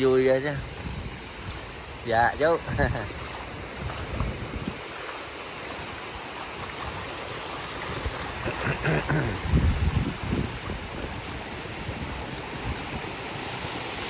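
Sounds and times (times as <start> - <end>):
small waves washing on beach: 0.0 - 14.0
wind rumbling on microphone: 0.0 - 14.0.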